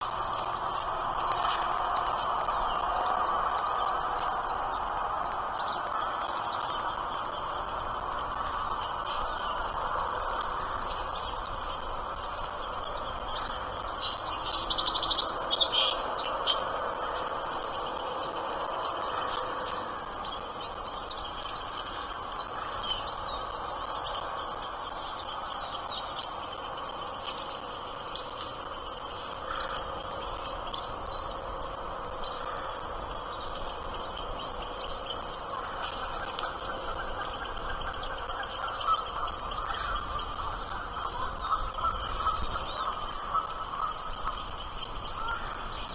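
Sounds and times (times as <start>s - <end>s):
small birds chirping: 0.0s - 45.9s
steady background noise: 0.0s - 45.9s.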